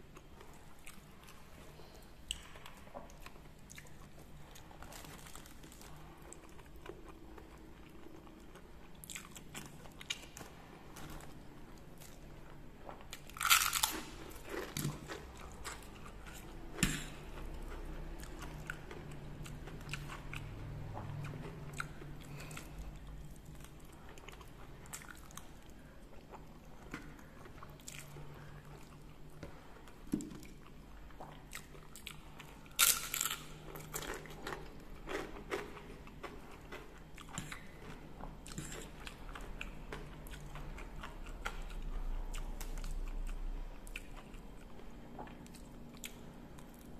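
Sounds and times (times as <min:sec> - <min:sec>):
crunching crisp crackers: 0:02.3 - 0:12.2, 0:12.9 - 0:29.7, 0:30.4 - 0:44.7.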